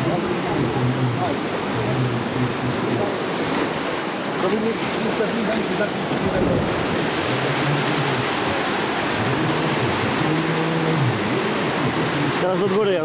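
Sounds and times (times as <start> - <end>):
whitewater rushing down a channel: 0.0 - 13.0.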